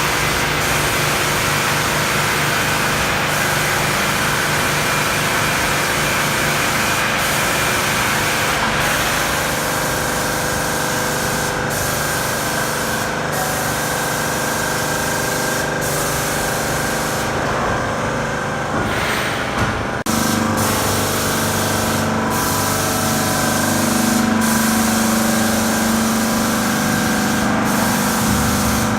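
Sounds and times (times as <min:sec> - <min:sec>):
sprayer motor and pump hum: 0:00.0 - 0:28.9
hiss of spray: 0:00.2 - 0:17.4, 0:20.1 - 0:28.9.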